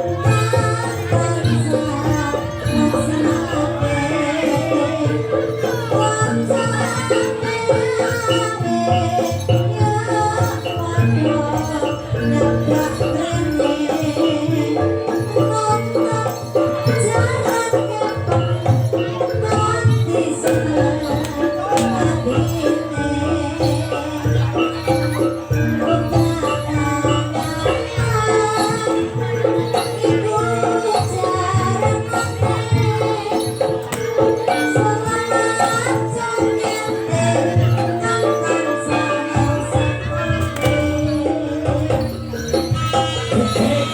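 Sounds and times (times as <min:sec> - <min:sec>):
drums: 0:00.0 - 0:43.9
gamelan music: 0:00.0 - 0:43.9
jingling rattle percussion: 0:00.0 - 0:43.9.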